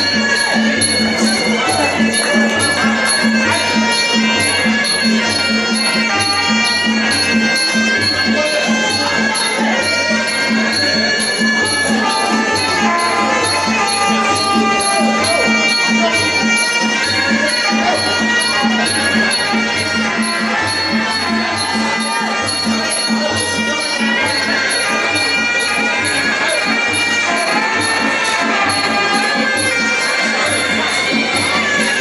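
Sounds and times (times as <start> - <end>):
reed oboe melody: 0.0 - 32.0.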